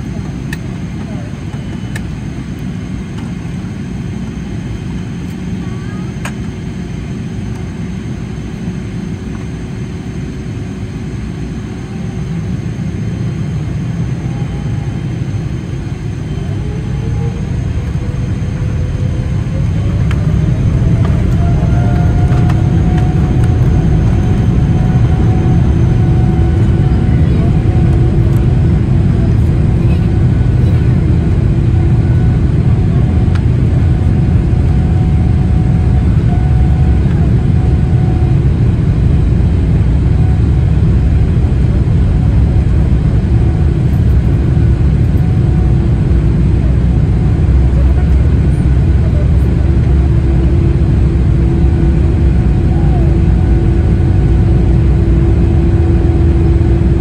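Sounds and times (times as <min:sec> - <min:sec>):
jet engines spooling up: 0:06.2 - 0:57.0.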